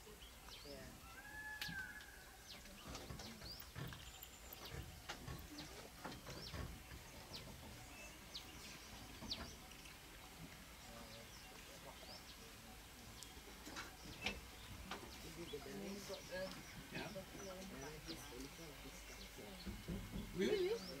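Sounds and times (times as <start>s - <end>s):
wild birds chirping: 0.0s - 21.0s.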